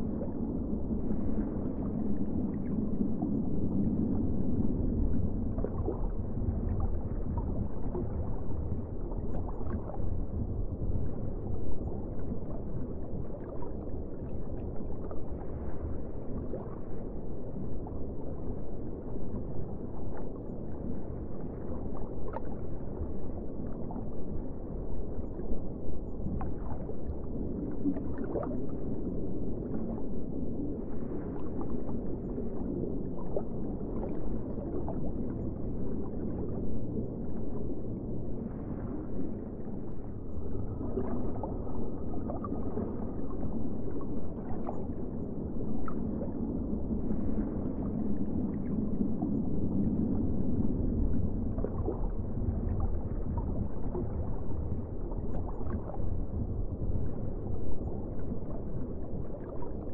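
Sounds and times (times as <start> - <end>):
underwater rumble and wash: 0.0 - 59.9.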